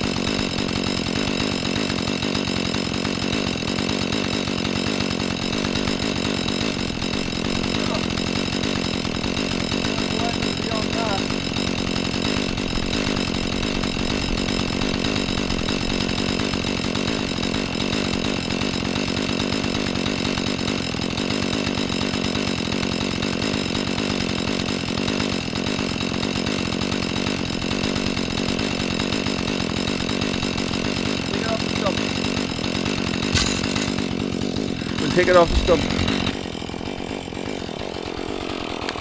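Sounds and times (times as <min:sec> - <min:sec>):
chainsaw running: 0:00.0 - 0:39.0.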